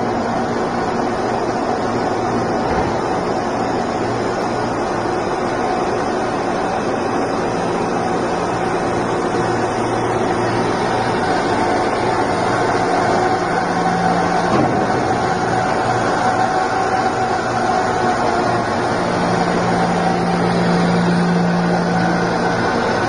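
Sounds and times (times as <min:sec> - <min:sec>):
constant hum: 0:00.0 - 0:23.0
egg peeling machine running: 0:00.0 - 0:23.0.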